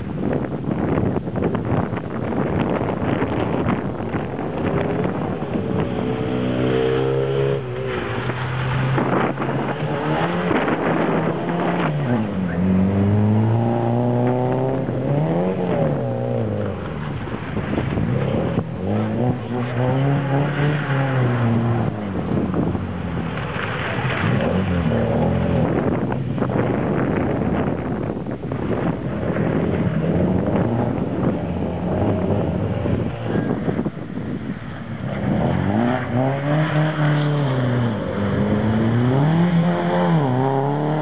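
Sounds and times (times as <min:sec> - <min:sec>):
car engine revving: 0:02.7 - 0:34.0, 0:34.8 - 0:41.0.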